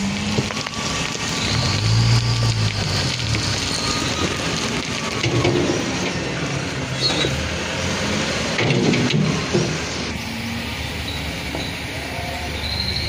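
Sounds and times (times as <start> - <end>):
truck rumbling and knocking: 0.0 - 13.0.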